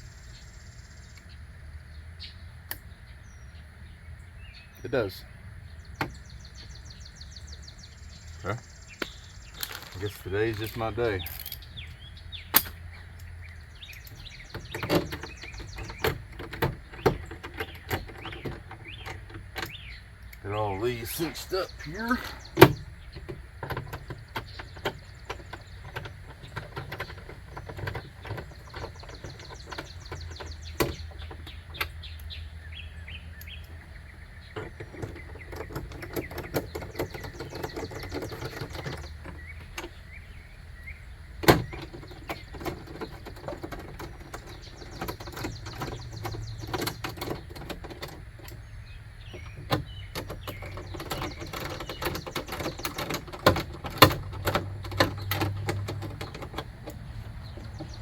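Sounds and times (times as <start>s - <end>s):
birds chirping faintly: 0.0s - 58.0s.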